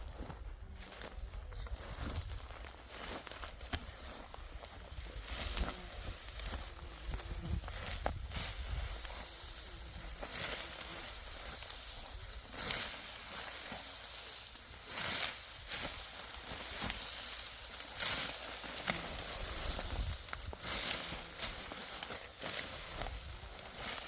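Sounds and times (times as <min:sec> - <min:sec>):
dry wheat stalks rustling: 0:00.0 - 0:24.0.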